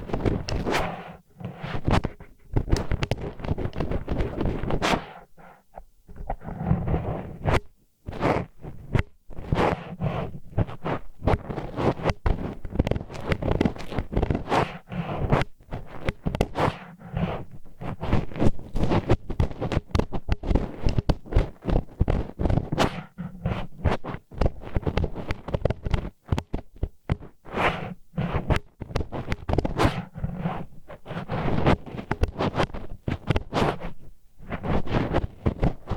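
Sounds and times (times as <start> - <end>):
wooden stick scraping in ear: 0.0 - 35.9.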